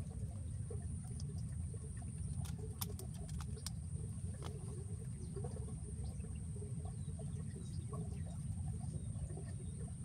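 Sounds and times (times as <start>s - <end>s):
faint ticks and chirps: 0.0s - 10.0s.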